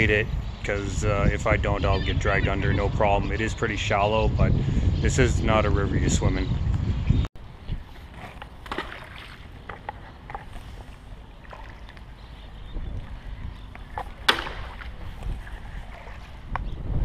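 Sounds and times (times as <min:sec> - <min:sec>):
low wind rumble on microphone: 0:00.0 - 0:17.0.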